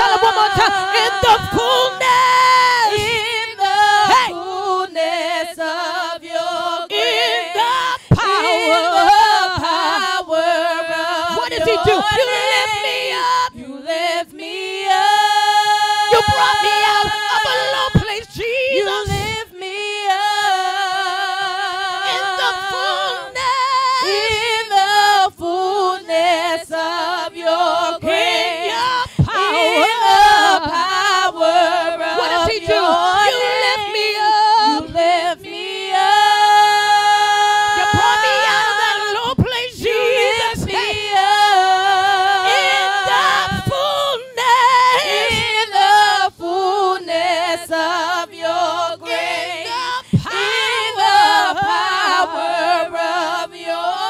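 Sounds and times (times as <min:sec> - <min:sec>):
woman singing unaccompanied: 0:00.0 - 0:54.0.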